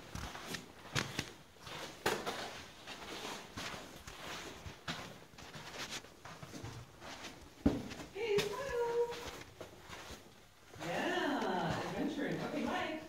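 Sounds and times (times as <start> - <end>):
footsteps on rock and grit: 0.0 - 13.0.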